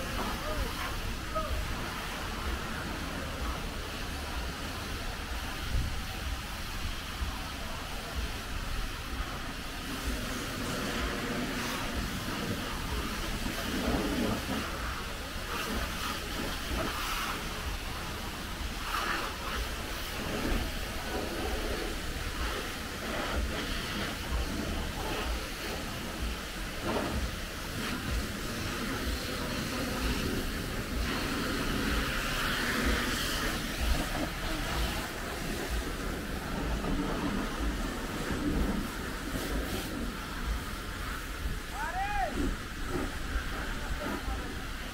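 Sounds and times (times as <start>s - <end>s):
hose wands spraying water: 0.0s - 44.9s
low rumble: 0.0s - 44.9s.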